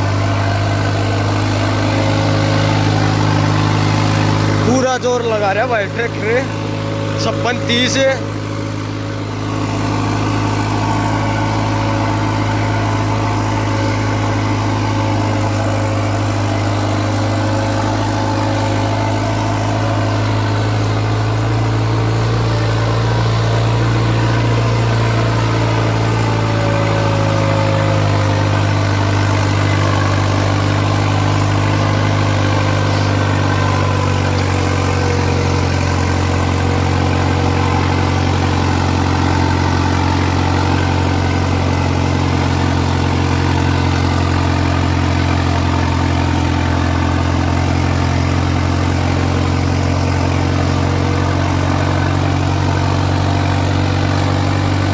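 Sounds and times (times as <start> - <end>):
tractor engine under load: 0.0 - 54.9.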